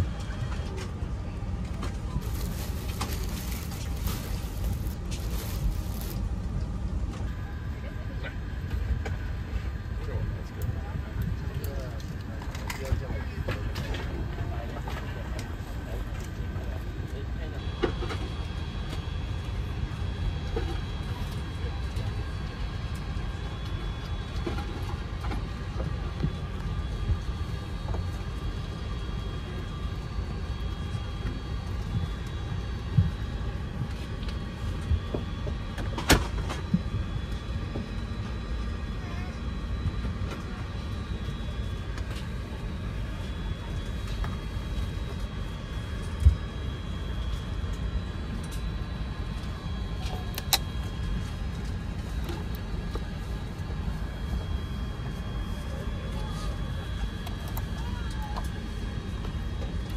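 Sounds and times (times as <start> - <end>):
cabin ventilation rumble: 0.0 - 59.9
faint steady whining tones: 0.0 - 59.9.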